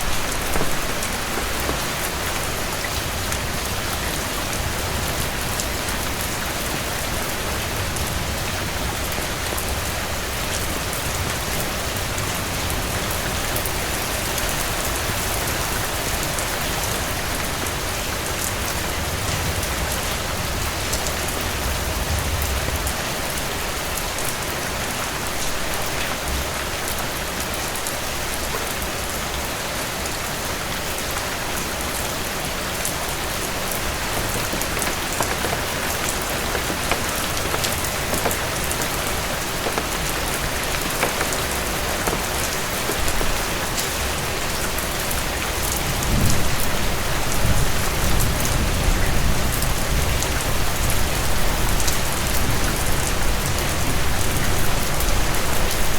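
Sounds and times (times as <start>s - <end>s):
heavy rain hissing: 0.0s - 55.9s.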